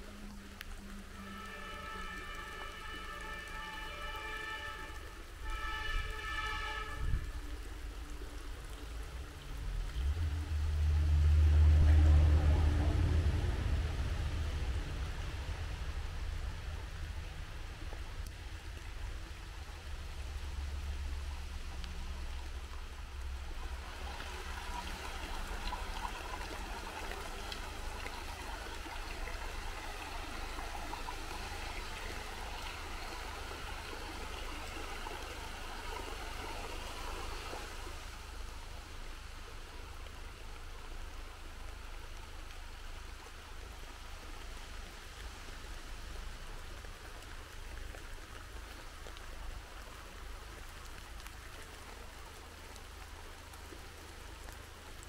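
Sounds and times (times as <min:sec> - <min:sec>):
rain falling through trees: 0:00.0 - 0:55.0.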